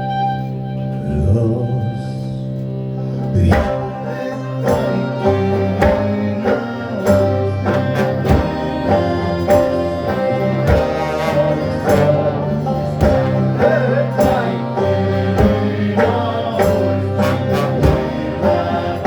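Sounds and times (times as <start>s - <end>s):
band playing a song: 0.0s - 19.0s.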